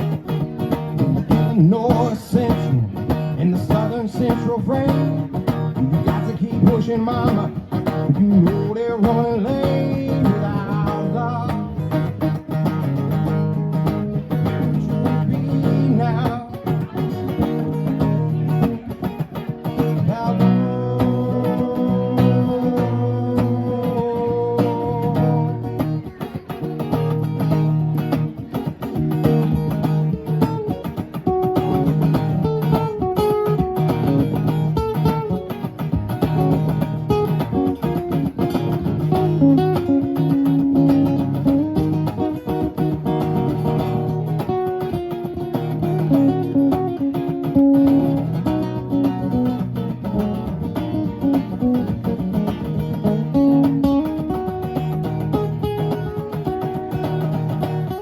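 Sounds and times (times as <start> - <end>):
lead guitar melody: 0.0 - 58.0
strummed rhythm guitar: 0.0 - 58.0.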